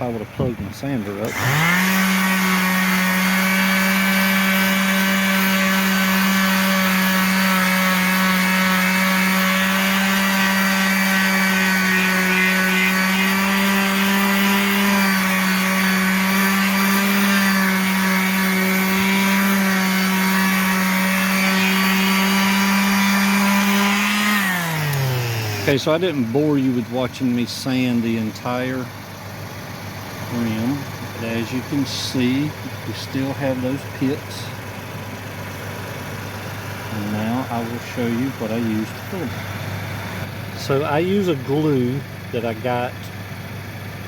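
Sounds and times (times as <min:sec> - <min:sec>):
electric sander running: 0:01.1 - 0:41.2.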